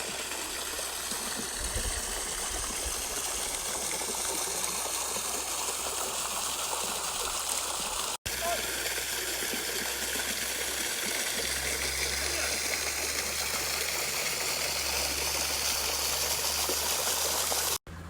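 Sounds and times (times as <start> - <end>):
stream water rushing over rocks: 0.0 - 17.8.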